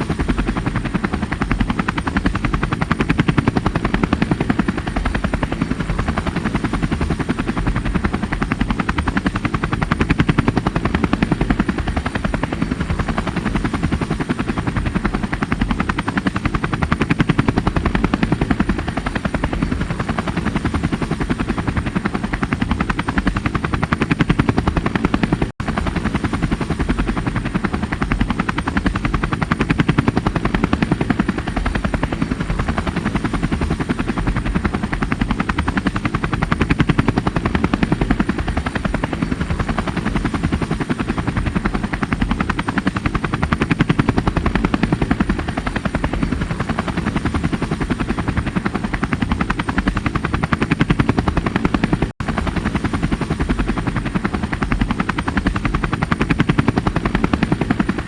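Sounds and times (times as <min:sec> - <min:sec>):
helicopter rotor beating: 0:00.0 - 0:58.0.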